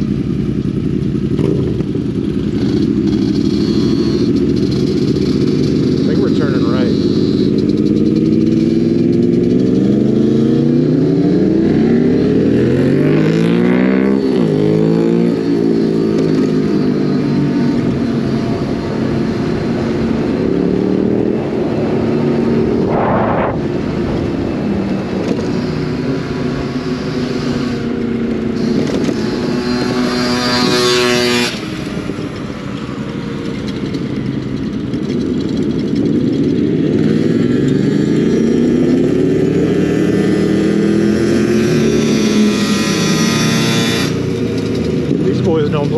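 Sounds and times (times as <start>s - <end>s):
motorcycle engines running: 0.0s - 45.9s.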